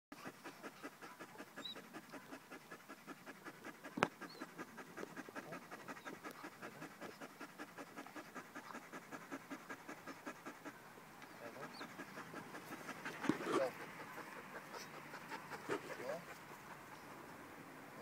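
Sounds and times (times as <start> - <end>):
puppy panting: 0.1 - 18.0.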